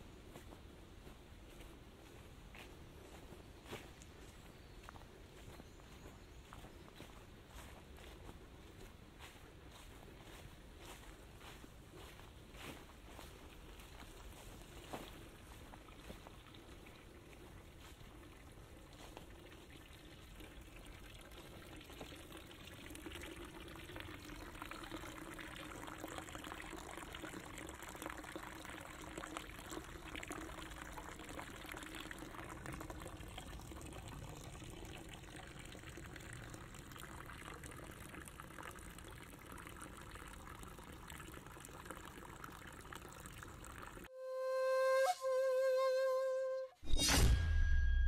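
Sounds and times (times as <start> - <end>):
water trickling: 2.0 - 44.1.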